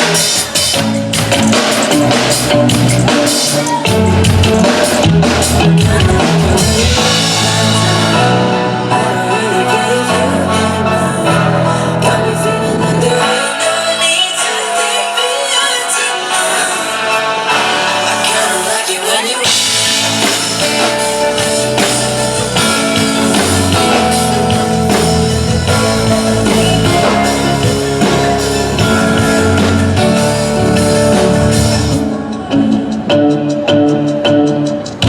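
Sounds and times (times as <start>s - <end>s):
pop band music over pa: 0.0s - 35.0s
person singing: 1.4s - 35.0s.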